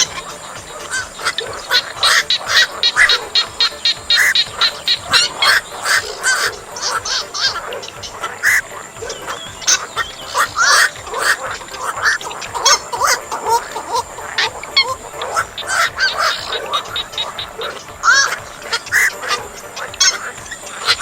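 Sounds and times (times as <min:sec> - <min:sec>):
herons croaking calls: 0:00.0 - 0:21.0.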